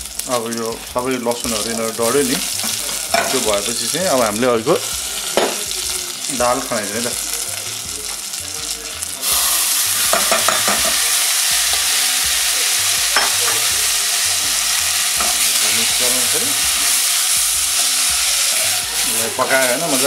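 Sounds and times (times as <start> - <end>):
lentils sizzling in hot ghee: 0.0 - 20.0.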